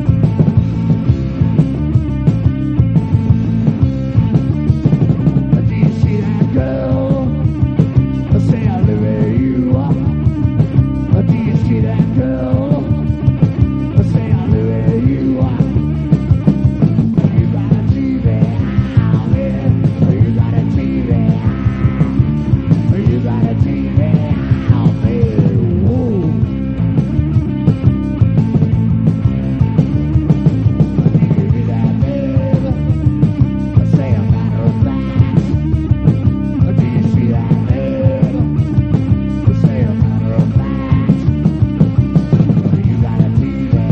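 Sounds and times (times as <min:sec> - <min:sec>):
instrumental rock music: 0:00.0 - 0:43.9.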